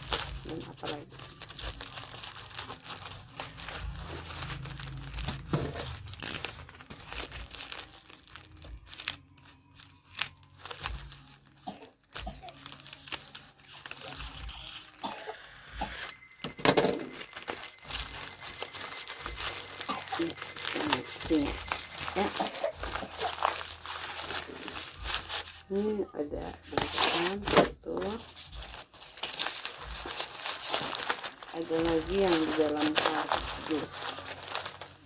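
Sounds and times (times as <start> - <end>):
packaging crinkling and tearing: 0.0 - 35.0.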